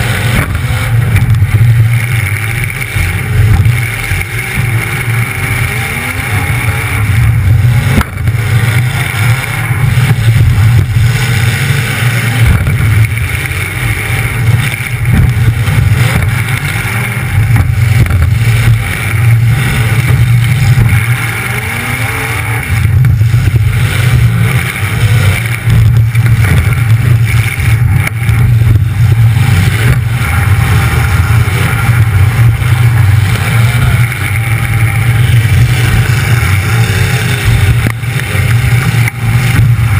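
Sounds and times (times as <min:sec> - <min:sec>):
loud car engine revving: 0:00.0 - 0:39.9.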